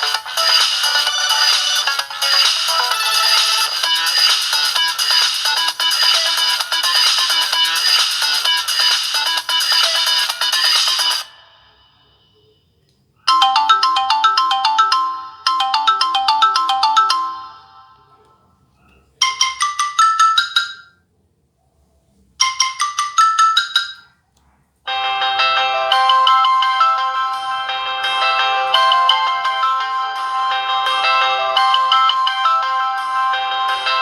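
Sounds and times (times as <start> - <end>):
phone ringtone melody: 0.0 - 12.5, 13.3 - 18.2, 19.2 - 21.0, 22.4 - 24.1, 24.9 - 34.0.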